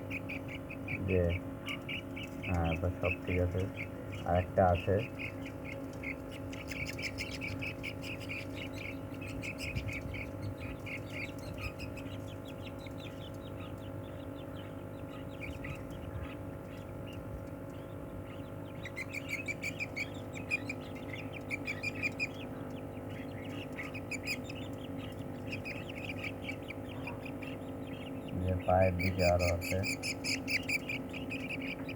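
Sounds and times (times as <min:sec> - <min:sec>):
budgerigars chirping: 0:00.0 - 0:31.9
low steady hum: 0:00.0 - 0:31.9.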